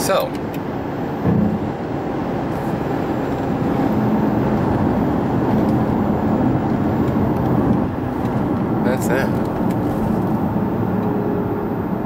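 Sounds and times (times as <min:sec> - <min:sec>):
road and tyre noise: 0:00.0 - 0:12.0
low engine drone: 0:00.4 - 0:12.0.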